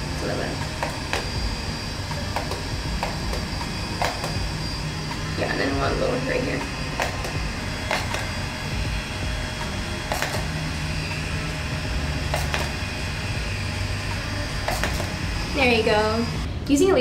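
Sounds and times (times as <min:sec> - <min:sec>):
device fan hum: 0:00.0 - 0:17.0.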